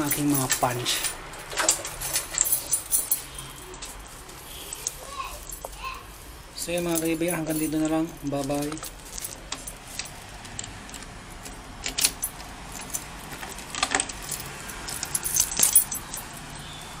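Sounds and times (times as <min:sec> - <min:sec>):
keys jangling: 0:00.0 - 0:05.8, 0:06.6 - 0:17.0.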